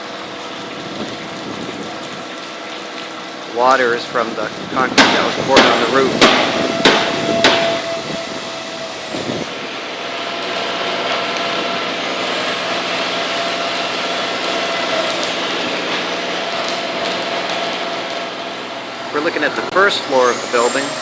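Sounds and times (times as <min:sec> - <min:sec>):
construction machinery running: 0:00.0 - 0:21.0.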